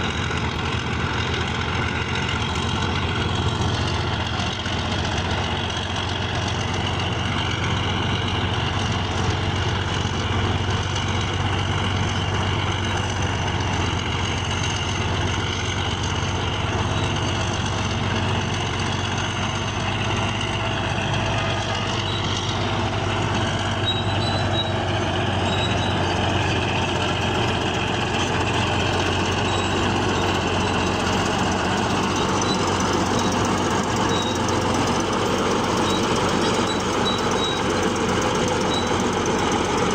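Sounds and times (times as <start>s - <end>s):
bulldozer engine running: 0.0s - 39.9s
metallic clatter of tracks: 0.0s - 39.9s.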